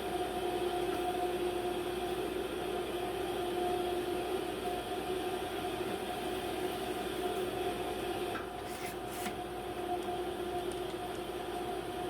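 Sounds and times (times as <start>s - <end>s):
workshop hum with held tones: 0.0s - 12.0s.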